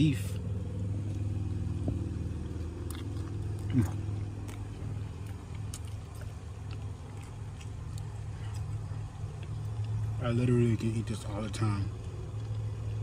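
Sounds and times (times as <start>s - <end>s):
steady low hum: 0.0s - 13.0s
man chewing food: 0.3s - 13.0s.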